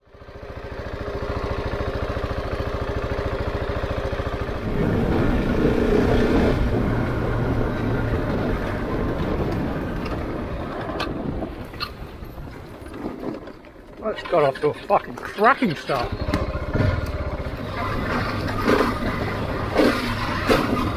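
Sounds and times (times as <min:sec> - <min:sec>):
motorcycle engine: 0:00.0 - 0:20.9.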